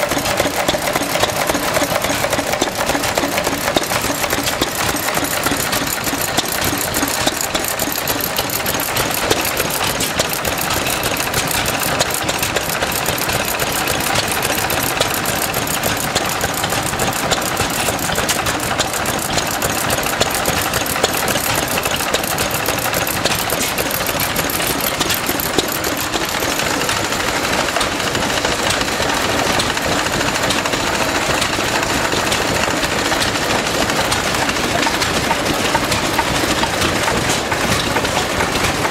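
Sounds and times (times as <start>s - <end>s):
small stationary engines clattering: 0.0s - 38.9s.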